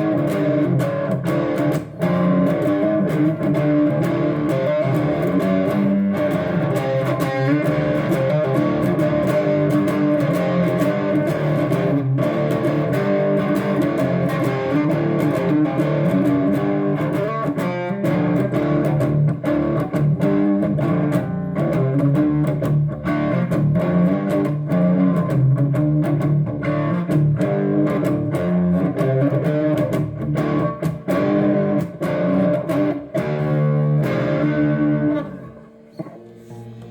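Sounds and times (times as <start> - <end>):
electric guitar playing: 0.0 - 36.9.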